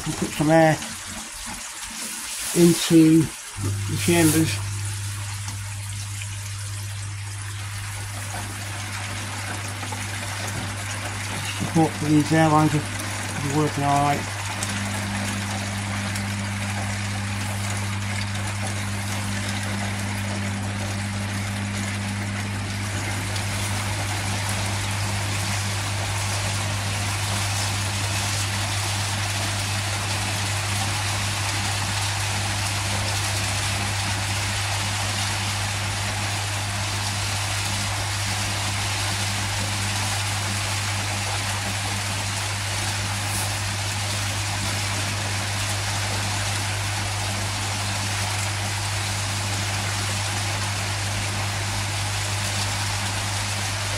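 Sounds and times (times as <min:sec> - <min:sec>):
air pump humming: 0:00.0 - 0:53.9.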